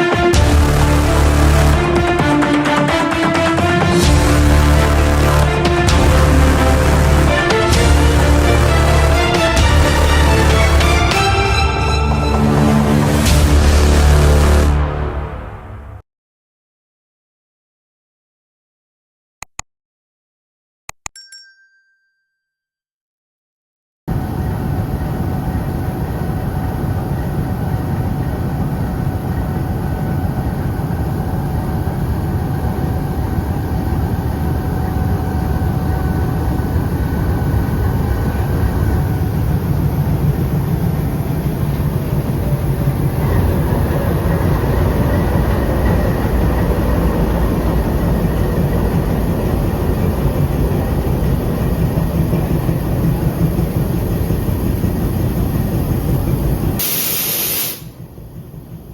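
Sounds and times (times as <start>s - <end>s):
diesel train rumbling: 0.0s - 16.0s, 24.1s - 58.9s.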